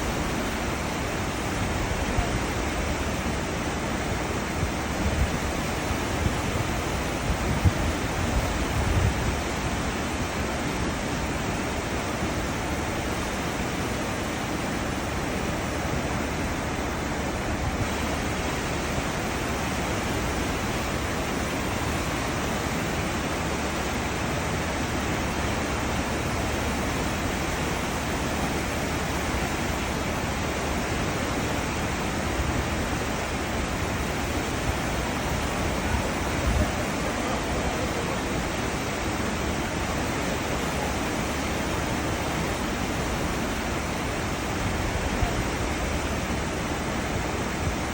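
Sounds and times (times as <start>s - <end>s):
churning white water rushing: 0.0s - 47.9s.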